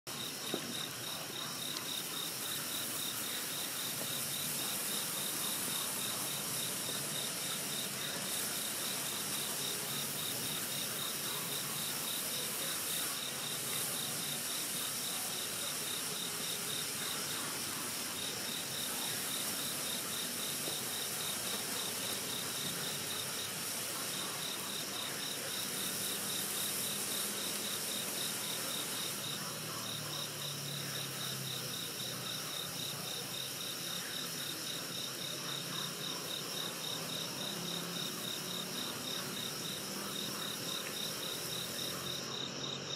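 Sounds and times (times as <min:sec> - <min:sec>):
crickets chirping: 0:00.1 - 0:42.9.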